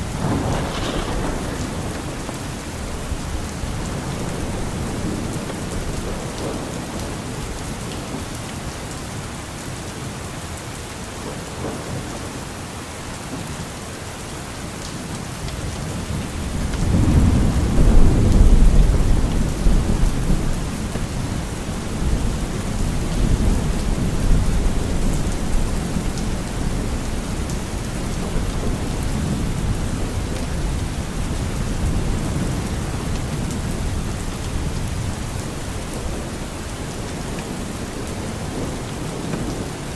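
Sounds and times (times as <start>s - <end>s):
thunder rumbling: 0.0s - 8.3s, 15.7s - 39.9s
steady rain falling: 0.0s - 39.9s.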